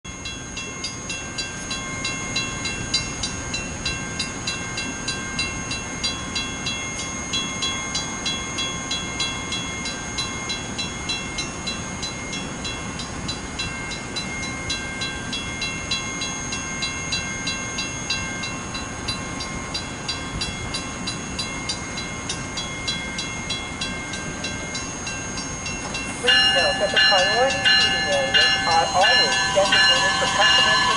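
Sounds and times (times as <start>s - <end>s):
regular train clicking: 0.1s - 30.9s
train rumbling: 0.1s - 30.9s
train whine: 0.1s - 30.9s.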